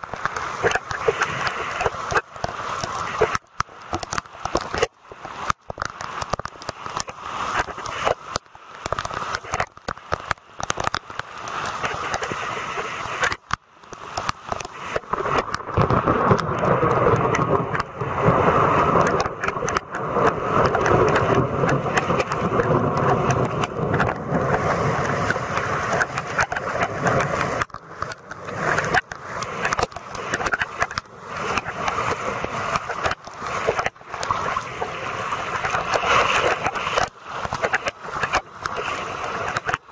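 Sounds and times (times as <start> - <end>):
floodwater rushing: 0.0 - 39.9
heavy rain: 0.0 - 39.9.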